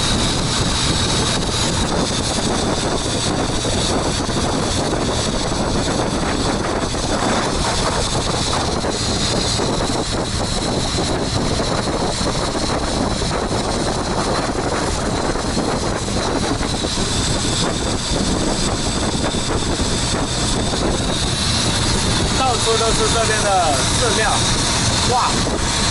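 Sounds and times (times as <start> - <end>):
boat engine droning: 0.0 - 25.9.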